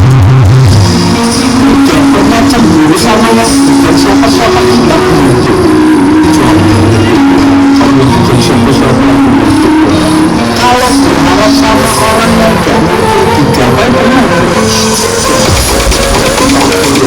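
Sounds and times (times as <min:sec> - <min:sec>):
loud music over pa system: 0:00.0 - 0:17.0.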